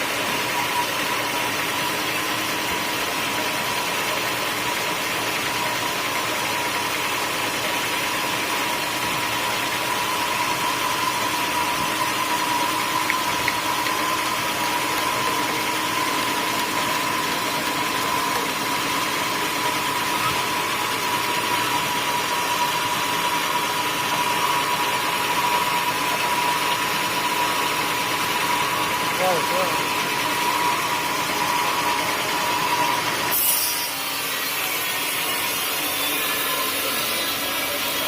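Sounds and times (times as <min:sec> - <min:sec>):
sawmill rushing noise: 0:00.0 - 0:38.0
sawmill whine: 0:00.0 - 0:38.0.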